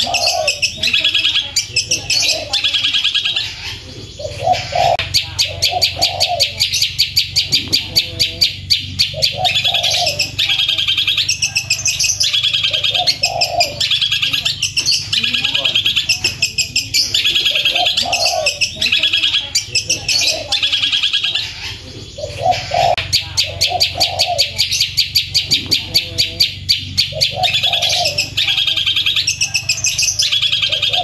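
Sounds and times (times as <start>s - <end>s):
lower harsh bird notes: 0.0s - 31.0s.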